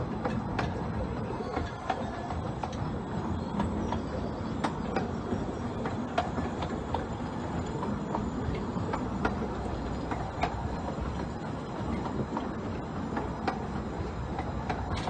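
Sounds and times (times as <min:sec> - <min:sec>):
wheels clicking over rail joints: 0:00.0 - 0:15.0.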